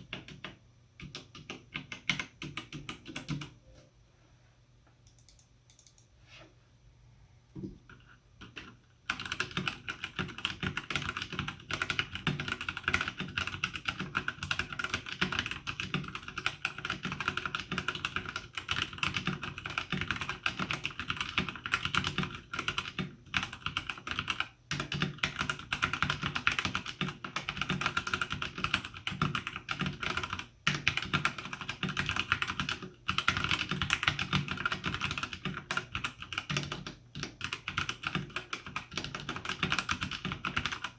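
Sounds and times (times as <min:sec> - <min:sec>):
mechanical keyboard typing: 0:00.0 - 0:03.6, 0:05.0 - 0:06.1, 0:07.9 - 0:40.9.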